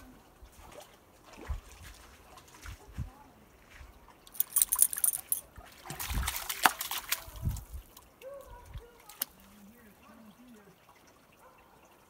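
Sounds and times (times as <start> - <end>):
dog splashing through creek water: 0.0 - 11.6.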